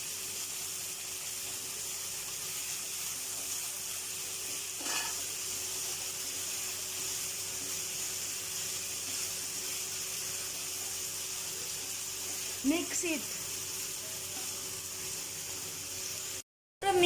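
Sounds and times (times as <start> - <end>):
potato sticks sizzling in oil: 0.0 - 17.0.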